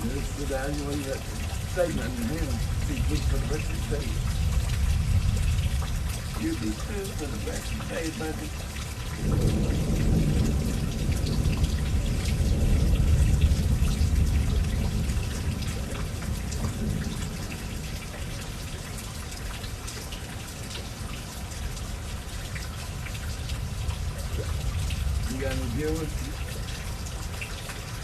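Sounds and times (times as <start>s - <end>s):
low rumble of thunder: 0.0s - 19.5s, 20.6s - 28.0s
drips: 0.0s - 28.0s
steady rain falling: 0.0s - 28.0s.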